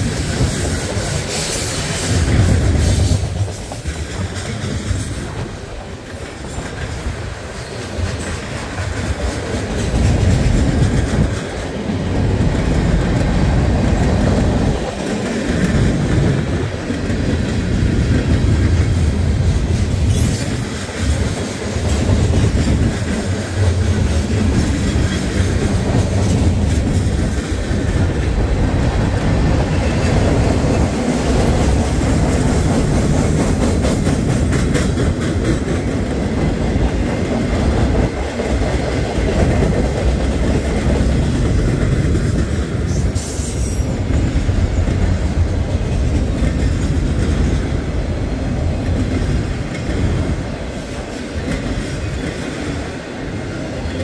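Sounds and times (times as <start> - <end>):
freight train wheels rumbling on rails: 0.0 - 54.0
wheels clacking over rail joints: 0.0 - 54.0.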